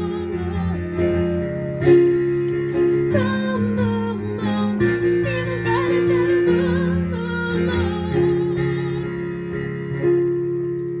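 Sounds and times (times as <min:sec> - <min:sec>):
pop song sustained chords: 0:00.0 - 0:11.0.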